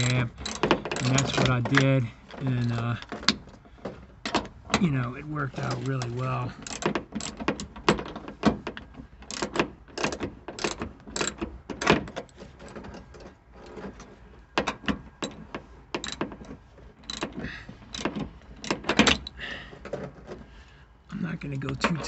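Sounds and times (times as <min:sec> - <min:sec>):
metal tools clicking and clunking: 0:00.0 - 0:20.4.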